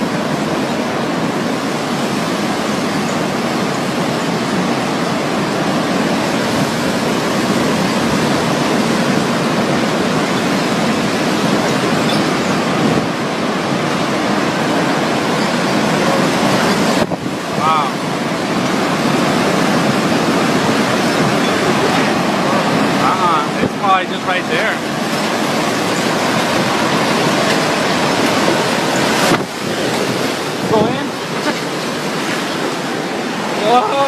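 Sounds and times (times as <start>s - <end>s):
strong storm wind rushing: 0.0s - 34.0s.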